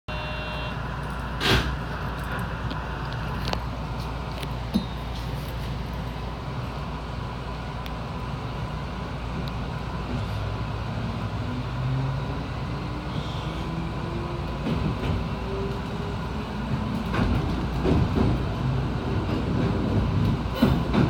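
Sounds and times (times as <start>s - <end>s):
train interior rumble: 0.5s - 21.0s.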